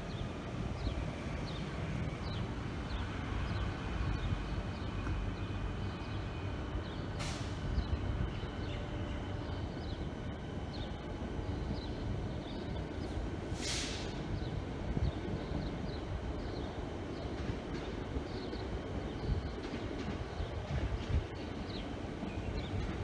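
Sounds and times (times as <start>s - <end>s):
electric trains rumbling: 0.0s - 23.0s.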